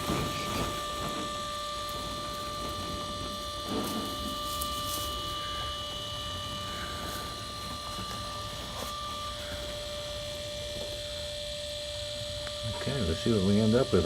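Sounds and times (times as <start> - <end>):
electrical hum and whine: 0.0 - 14.0.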